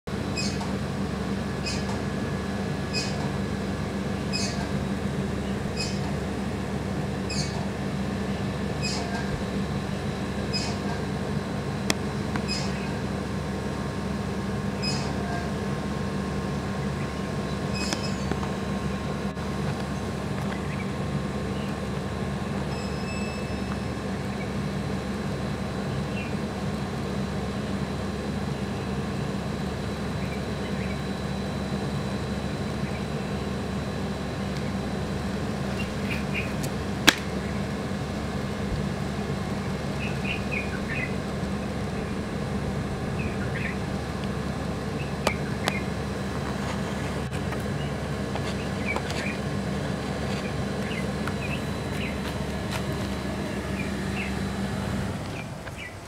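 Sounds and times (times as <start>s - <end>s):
low background hum: 0.1s - 56.0s.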